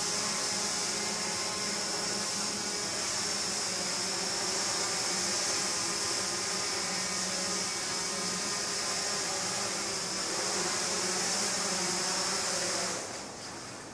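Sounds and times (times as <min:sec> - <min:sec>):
drone propellers buzzing: 0:00.0 - 0:13.1.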